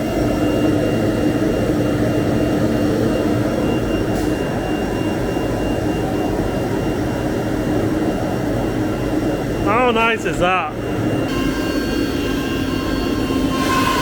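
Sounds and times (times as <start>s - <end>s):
cnc router running: 0.0s - 14.0s.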